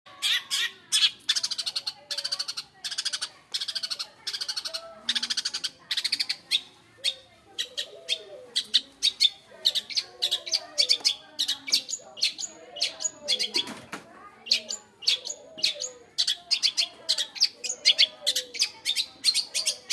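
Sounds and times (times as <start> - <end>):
shrike harsh chattering song: 0.2 - 13.7, 14.4 - 19.9.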